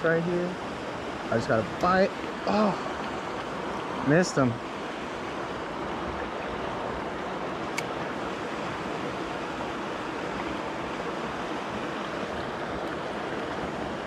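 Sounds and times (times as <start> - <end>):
river water flowing over rocks: 0.0 - 14.0.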